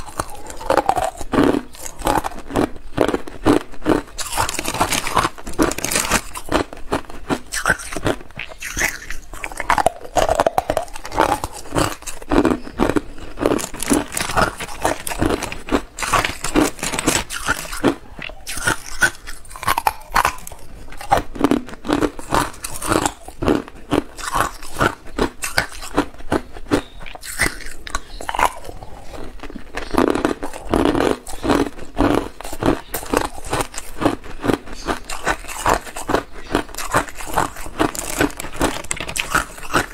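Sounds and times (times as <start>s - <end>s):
ice cubes crunching in mouth: 0.0s - 39.9s.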